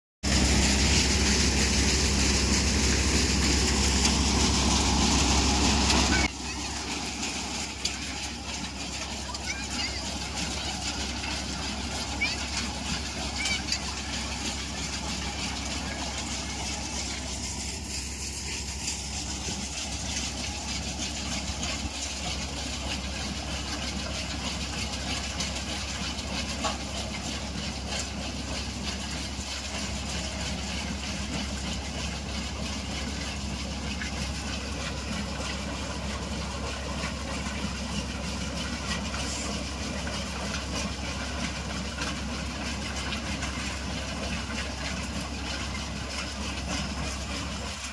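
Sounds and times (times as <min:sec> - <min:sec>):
diesel engine running: 0:00.2 - 0:47.9
thresher drum turning: 0:00.2 - 0:47.9.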